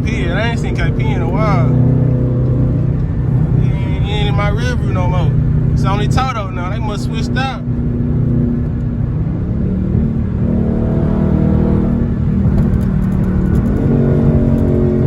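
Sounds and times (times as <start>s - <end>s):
car engine running under load: 0.0s - 15.0s.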